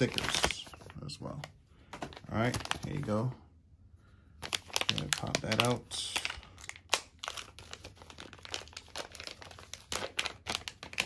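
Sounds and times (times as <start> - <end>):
plastic bag crinkling: 0.0 - 3.3, 4.4 - 11.0.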